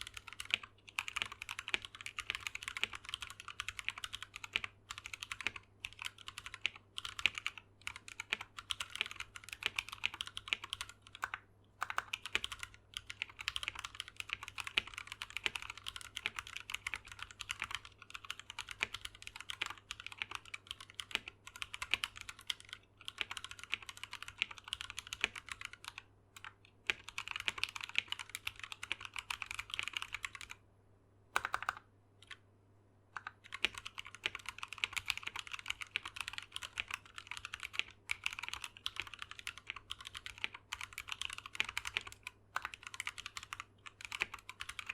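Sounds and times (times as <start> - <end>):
mechanical keyboard typing: 0.0 - 30.6, 31.4 - 32.4, 33.2 - 44.9.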